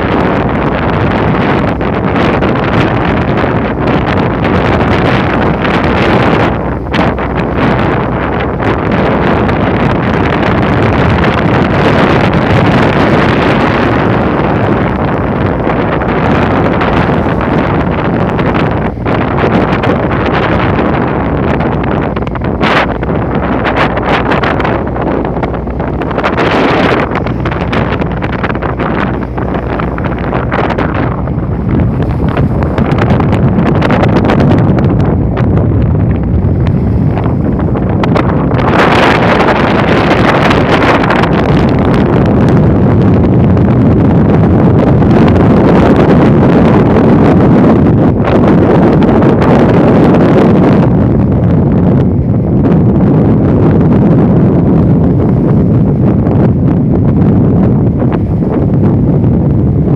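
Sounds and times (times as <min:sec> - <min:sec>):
sea waves rushing: 0:00.0 - 0:59.9
wind buffeting microphone: 0:00.0 - 0:59.9.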